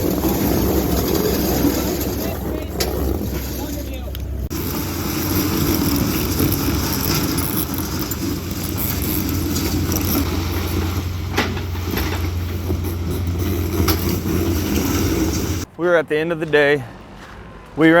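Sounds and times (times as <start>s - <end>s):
diesel engine running under load: 0.0s - 15.7s.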